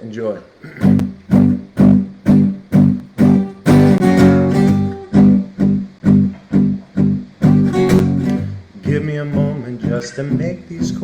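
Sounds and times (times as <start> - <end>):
acoustic guitar strumming chords: 0.6 - 11.0.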